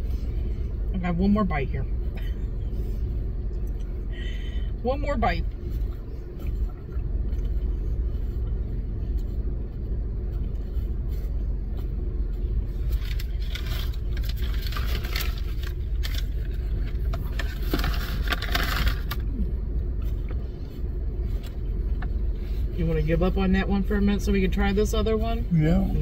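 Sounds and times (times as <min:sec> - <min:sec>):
car idling: 0:00.0 - 0:26.0.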